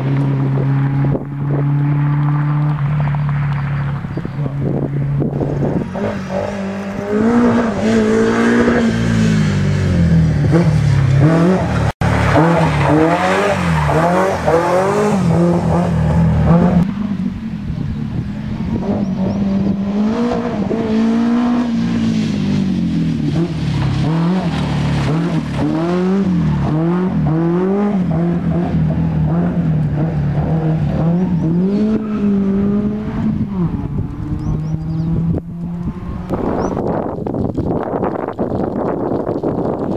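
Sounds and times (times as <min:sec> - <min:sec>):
rally car engine revving: 0:00.0 - 0:39.9.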